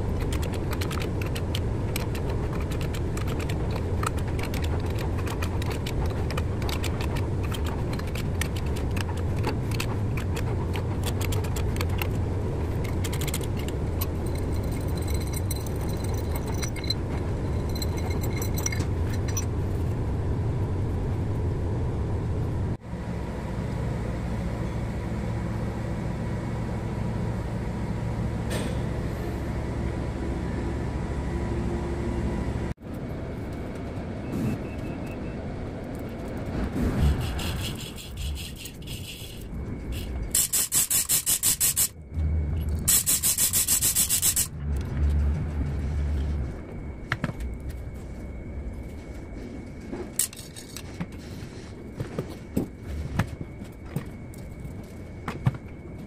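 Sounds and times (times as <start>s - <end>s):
low workshop rumble: 0.0s - 56.0s.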